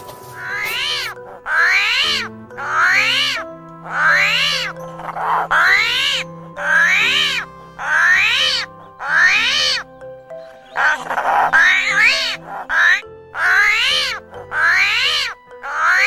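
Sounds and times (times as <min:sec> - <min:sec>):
background music: 0:00.0 - 0:16.0
animal high call: 0:00.3 - 0:16.0.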